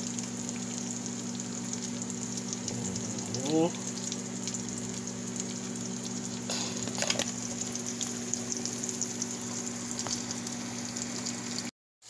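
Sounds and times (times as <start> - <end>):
fish frying in hot oil: 0.0 - 11.7
steady low hum: 0.1 - 11.6.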